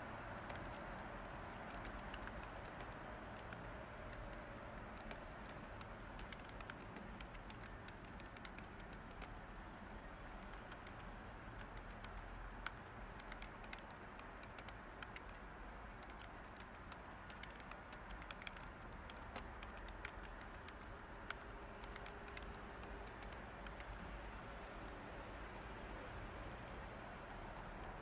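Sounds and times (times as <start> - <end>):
steady white noise hiss: 0.0 - 28.0
keyboard key clicks: 0.4 - 9.4, 10.4 - 23.9.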